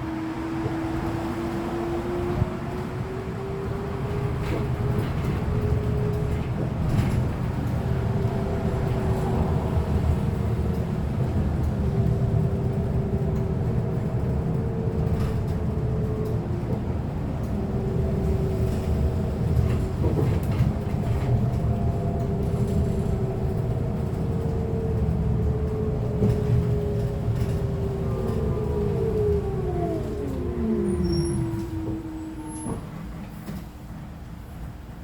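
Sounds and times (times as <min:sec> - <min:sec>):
thin drivetrain whine: 0:00.0 - 0:33.7
bus engine and road rumble: 0:00.0 - 0:35.0.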